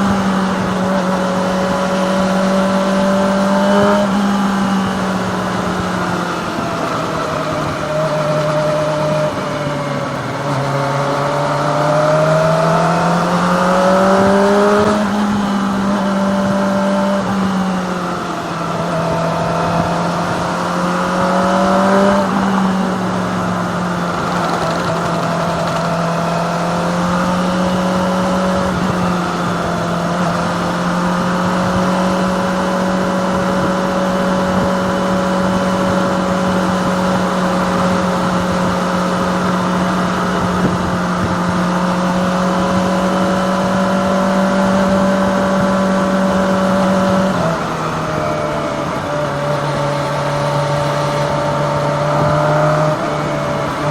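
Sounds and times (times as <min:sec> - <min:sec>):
motorcycle engine cruising: 0:00.0 - 0:53.9
wind noise: 0:00.0 - 0:53.9.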